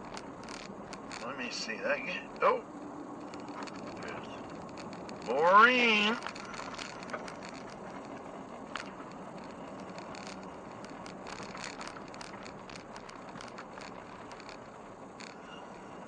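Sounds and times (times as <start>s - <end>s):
road and tyre noise: 0.0s - 16.0s
small clicks and rattles: 0.0s - 16.0s.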